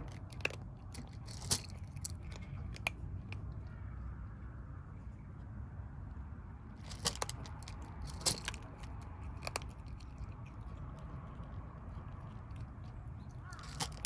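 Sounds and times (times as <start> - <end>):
kittens crunching food: 0.0 - 14.0.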